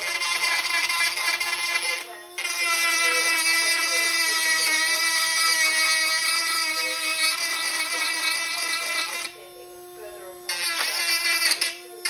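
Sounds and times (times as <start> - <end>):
rotary tool grinding plastic: 0.0 - 12.0.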